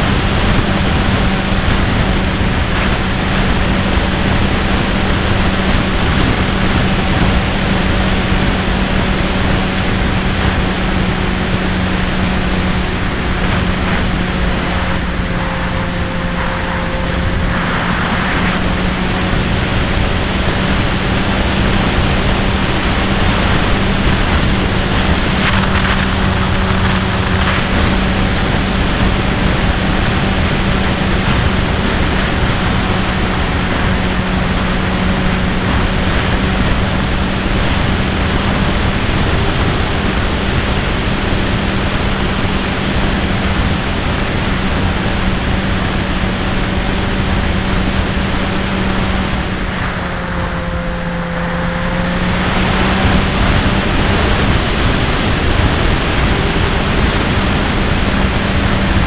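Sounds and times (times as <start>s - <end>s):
model aeroplane engine running: 0.0s - 59.0s
wind noise: 0.0s - 59.0s.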